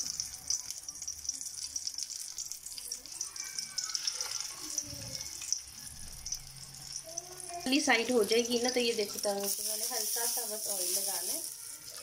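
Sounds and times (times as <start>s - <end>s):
bread sizzling in frying pan: 0.0s - 12.0s.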